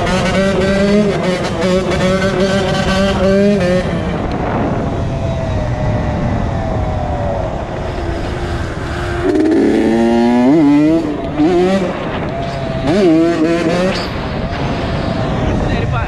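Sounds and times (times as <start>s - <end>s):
two-stroke motorcycle engine revving: 0.0s - 4.8s, 6.8s - 15.4s.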